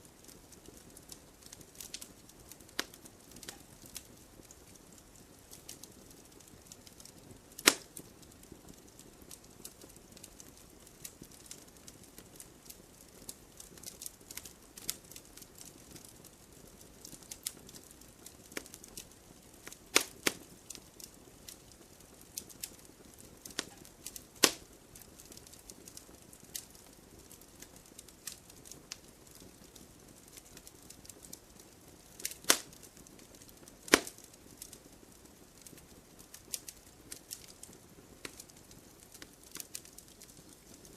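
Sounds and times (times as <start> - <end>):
loud pops from burning wood: 0.0 - 40.9
wood fire crackling: 0.0 - 40.9.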